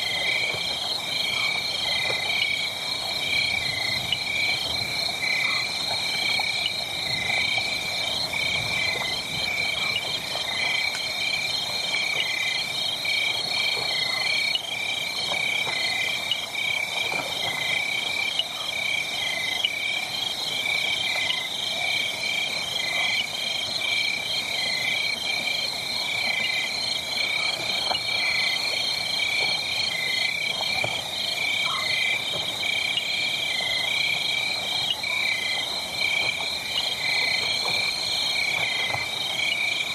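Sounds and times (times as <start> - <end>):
frogs and insects chorus: 0.0 - 39.9.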